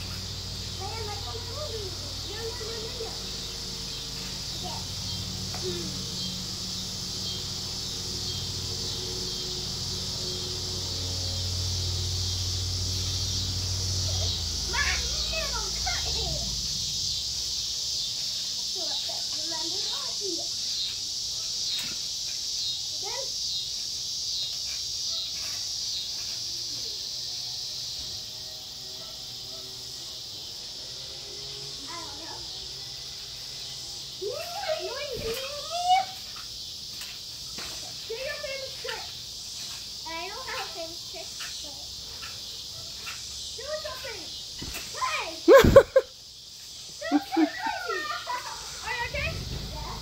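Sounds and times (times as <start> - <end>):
high-pitched insect chorus: 0.0 - 50.0
steady low hum: 0.0 - 50.0.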